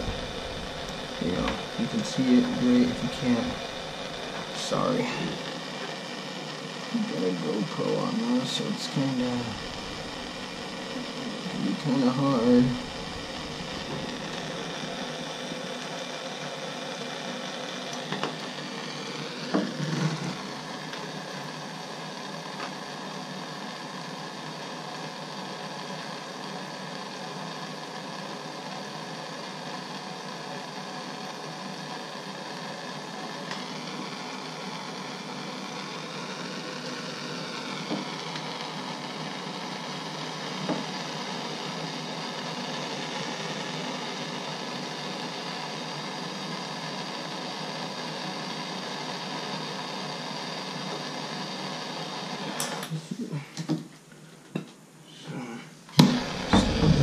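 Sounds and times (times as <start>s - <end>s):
gas torch hissing: 0.0s - 53.7s, 55.3s - 57.0s.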